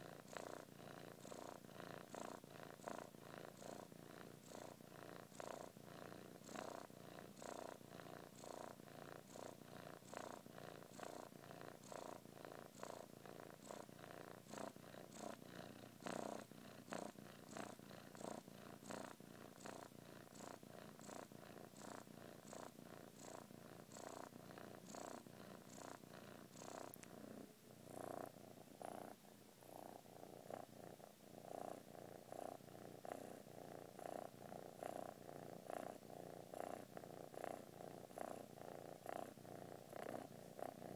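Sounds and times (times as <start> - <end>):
kitten purring: 0.0 - 40.9.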